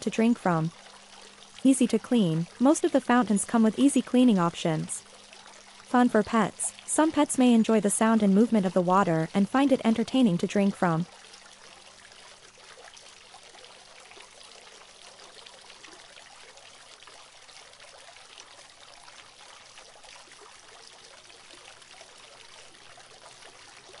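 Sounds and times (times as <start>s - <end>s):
water trickling into basin: 0.0s - 24.0s.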